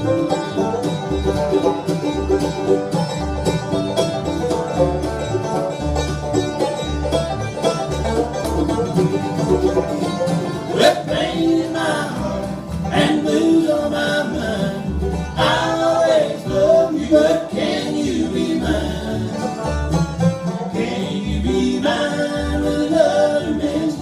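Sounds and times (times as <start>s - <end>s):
banjo: 0.0s - 24.0s
bluegrass band playing: 0.0s - 24.0s.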